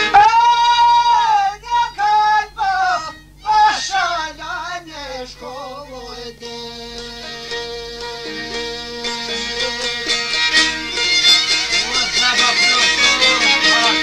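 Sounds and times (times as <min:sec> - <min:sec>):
man singing folk song: 0:00.0 - 0:14.0
string accompaniment: 0:02.7 - 0:14.0.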